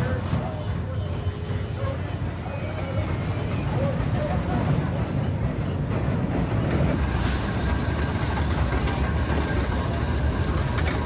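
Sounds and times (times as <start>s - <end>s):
carnival rides rumbling: 0.0s - 11.0s
midway crowd noise: 0.0s - 11.0s.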